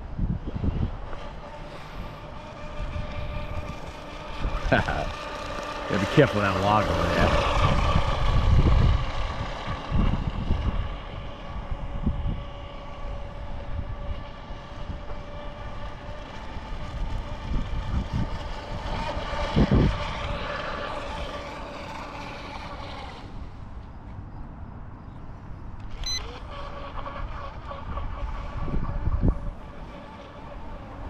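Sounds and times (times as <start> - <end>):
boat motor whining: 0.0 - 24.6, 25.4 - 31.0.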